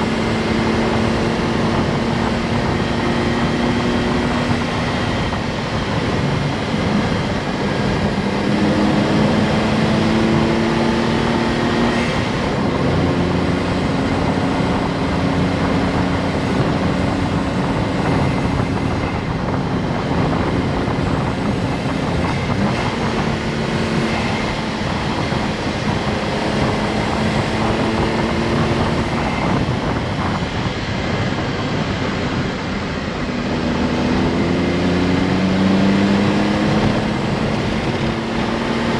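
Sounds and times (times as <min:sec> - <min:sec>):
car engine running: 0:00.0 - 0:38.9
road noise: 0:00.0 - 0:38.9.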